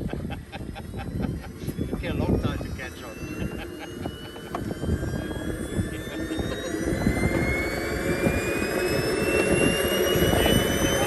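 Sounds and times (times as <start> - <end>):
model airplane engine whine: 0.0 - 11.0.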